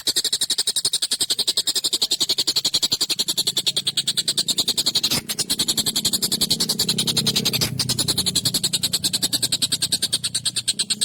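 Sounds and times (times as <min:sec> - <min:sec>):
bird harsh rapid chatter: 0:00.0 - 0:11.0.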